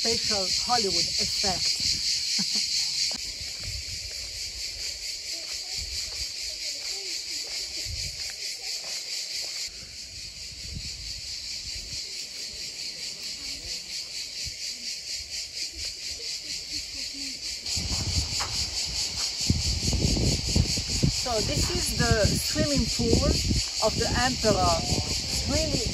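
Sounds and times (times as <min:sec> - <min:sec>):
cicadas chirring: 0:00.0 - 0:25.9.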